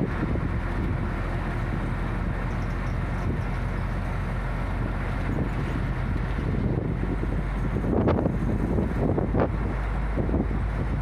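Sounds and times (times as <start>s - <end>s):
bus engine rumble: 0.0s - 11.0s
road noise: 0.0s - 11.0s.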